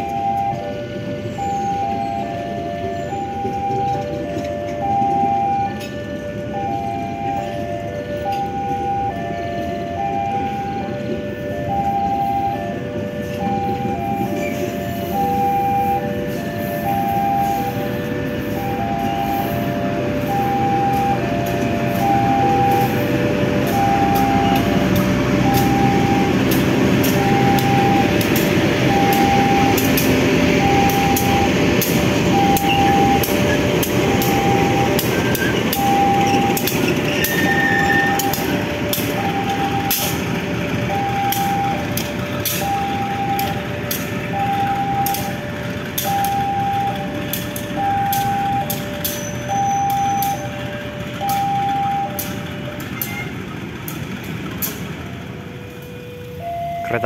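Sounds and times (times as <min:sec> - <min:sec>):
wheels clacking over rail joints: 0:00.0 - 0:56.4
diesel locomotive rumble: 0:00.0 - 0:57.0
level-crossing alarm beeps: 0:00.0 - 0:57.0.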